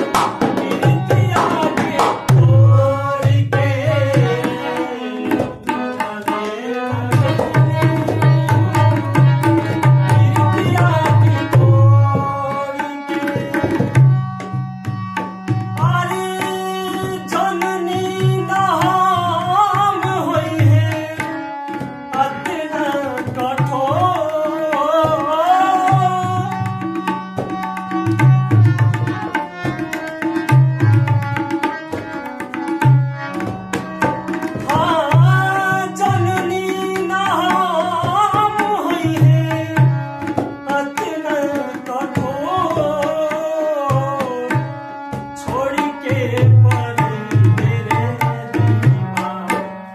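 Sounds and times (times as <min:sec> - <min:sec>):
tabla rhythm: 0:00.0 - 0:49.9.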